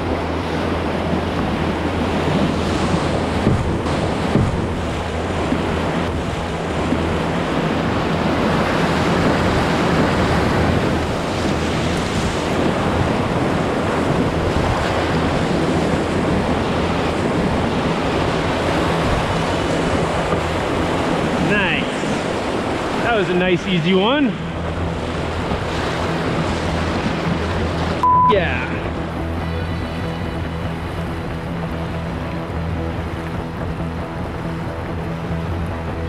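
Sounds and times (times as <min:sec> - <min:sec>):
rushing whitewater: 0:00.0 - 0:36.0.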